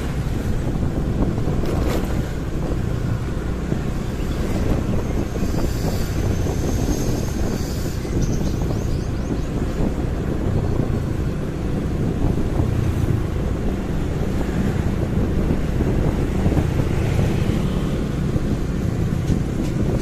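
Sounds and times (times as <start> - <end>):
traffic: 0.0 - 20.0
wind rumble on microphone: 0.0 - 20.0.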